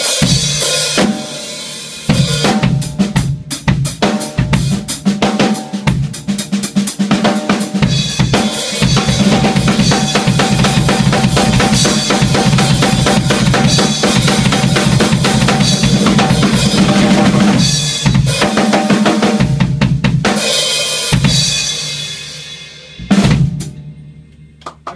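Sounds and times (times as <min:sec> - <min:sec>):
drum kit played fast: 0:00.0 - 0:24.9.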